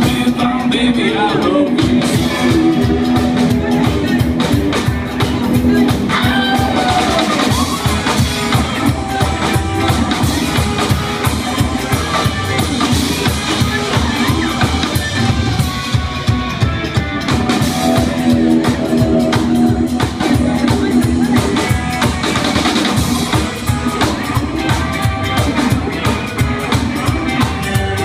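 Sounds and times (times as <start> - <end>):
drum kit beat: 0.0 - 28.0
electric guitar: 0.0 - 28.0
upright bass: 0.0 - 28.0.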